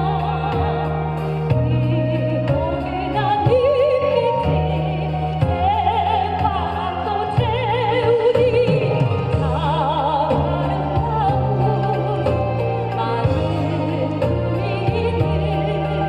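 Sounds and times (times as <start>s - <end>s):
backing track with bass: 0.0s - 16.0s
person singing with vibrato: 0.0s - 16.0s.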